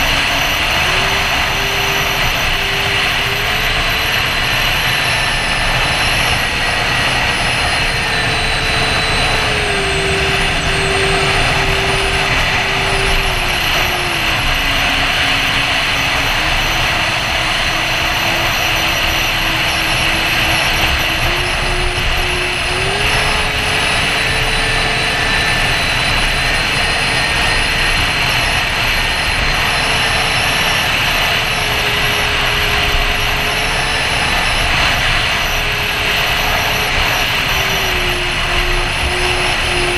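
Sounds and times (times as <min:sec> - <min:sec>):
electric ducted fans whining: 0:00.0 - 0:39.9.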